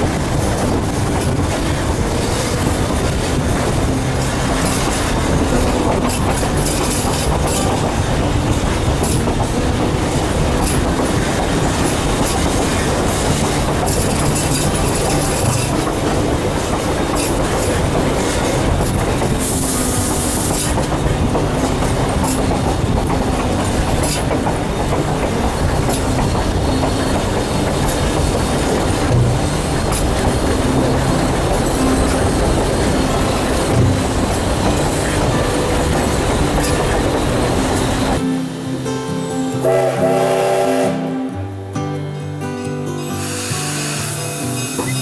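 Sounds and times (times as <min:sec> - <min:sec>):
train wheels rumbling on rails: 0:00.0 - 0:41.6.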